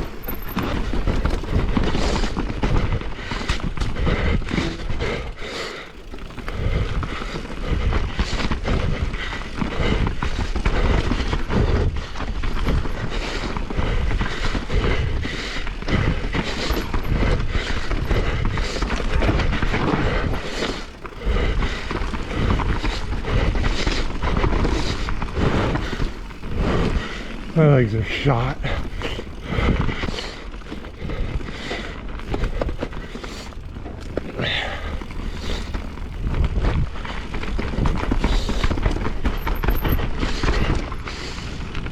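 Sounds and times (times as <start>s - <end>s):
bike knocking and rattling: 0.0s - 41.9s
wind buffeting microphone: 0.0s - 41.9s.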